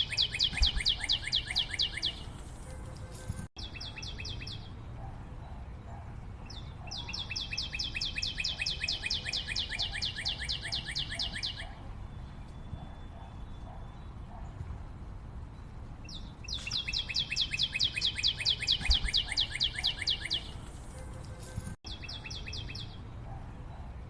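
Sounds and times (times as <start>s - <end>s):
bird singing fast runs: 0.0s - 5.6s, 6.4s - 14.7s, 15.4s - 23.0s.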